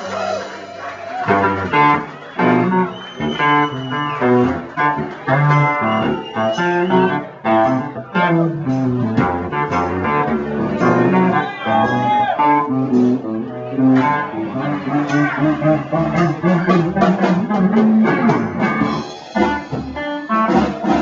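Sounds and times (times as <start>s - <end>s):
bass line: 0.0s - 21.0s
plucked guitar: 1.2s - 21.0s.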